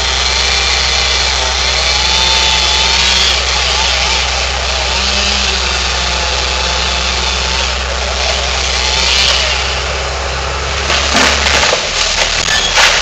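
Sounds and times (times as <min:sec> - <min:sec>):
chainsaw cutting tree: 0:00.0 - 0:13.0
tree cracking: 0:00.0 - 0:13.0
truck engine running: 0:00.0 - 0:13.0.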